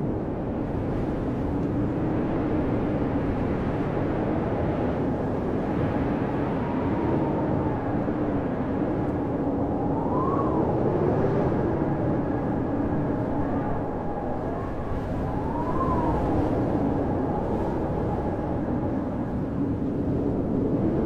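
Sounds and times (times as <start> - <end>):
blizzard wind howling: 0.0 - 21.0
whistling wind gusts: 0.0 - 21.0.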